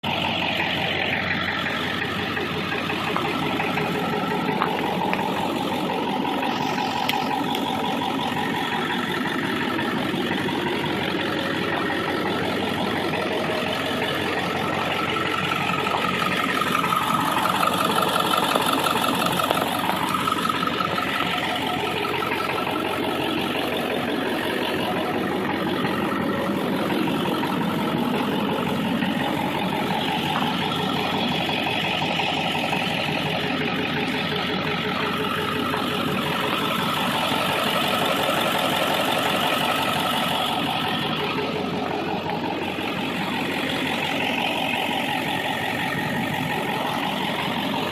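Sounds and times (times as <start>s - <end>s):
diesel engine idling: 0.0s - 47.9s
engine knock: 0.0s - 47.9s.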